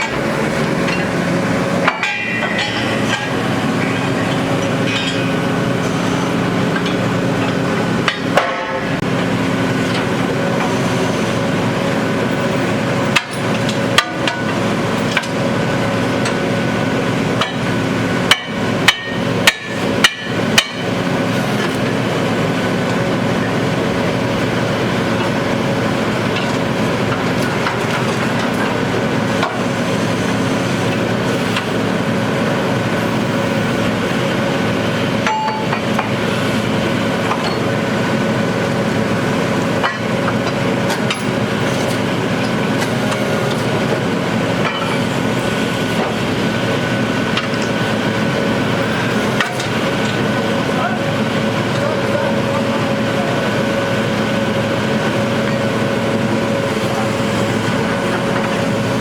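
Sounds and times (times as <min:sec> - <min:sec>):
drilling rig engine droning: 0:00.0 - 0:59.0.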